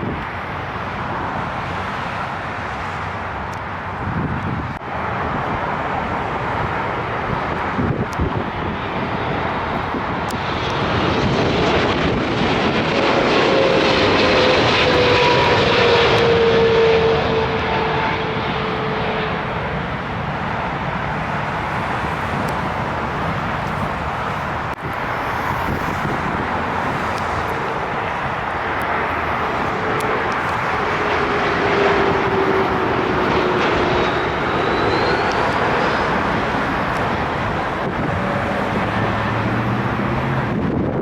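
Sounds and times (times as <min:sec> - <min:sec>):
airliner engine noise: 0:00.0 - 0:41.0
falling engine whine: 0:06.1 - 0:41.0.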